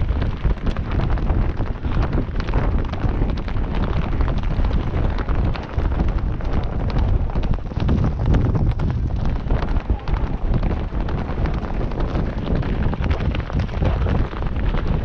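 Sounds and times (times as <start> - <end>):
hoofbeats on dirt: 0.0 - 15.0
wind rumbling on microphone: 0.0 - 15.0.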